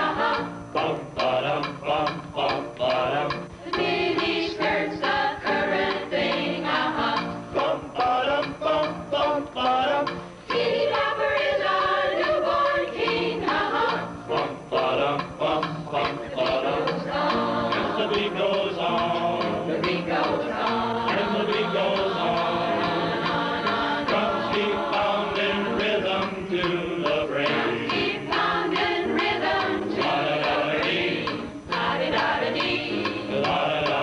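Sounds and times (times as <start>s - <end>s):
choir singing with music: 0.0s - 34.0s.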